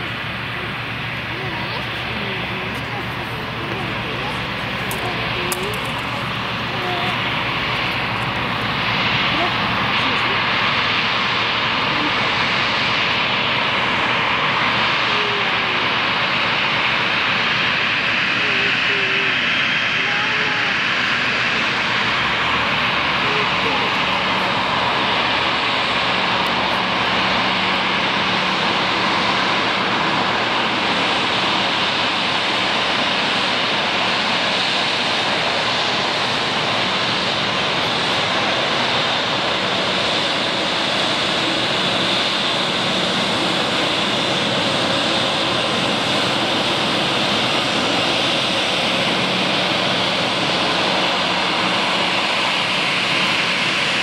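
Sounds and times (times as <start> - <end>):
jet engines rushing and whining: 0.0 - 54.0.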